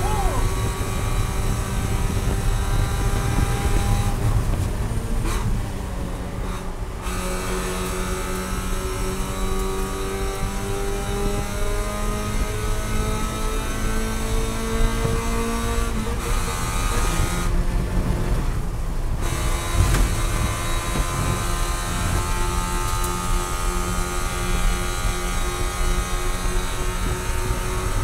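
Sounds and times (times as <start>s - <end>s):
race car engine running hard: 0.0s - 28.0s.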